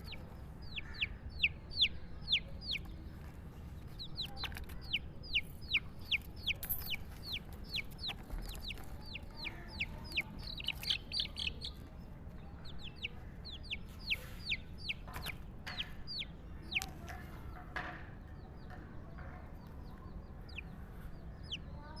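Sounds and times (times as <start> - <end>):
bird peeping: 0.0 - 17.6, 18.3 - 22.0.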